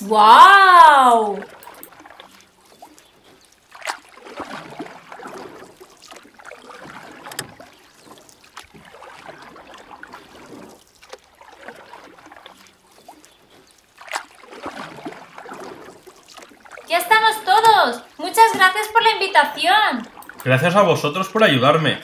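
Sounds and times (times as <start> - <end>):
water trickling: 0.0 - 22.0.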